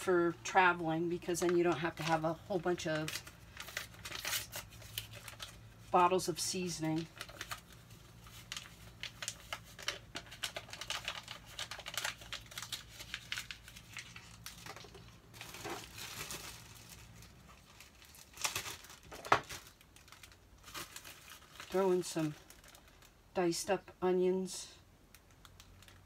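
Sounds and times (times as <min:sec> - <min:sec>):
packet crinkling and rustling: 0:00.2 - 0:23.3, 0:25.0 - 0:26.0.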